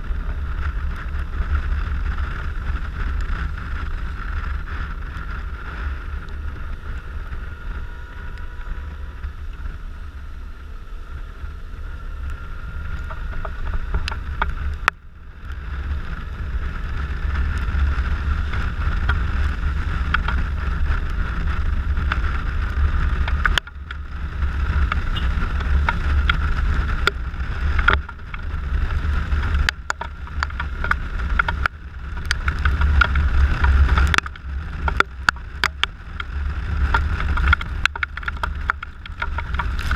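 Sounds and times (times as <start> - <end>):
scooter engine rumble: 0.0 - 39.9
wind rushing over microphone: 0.0 - 39.9.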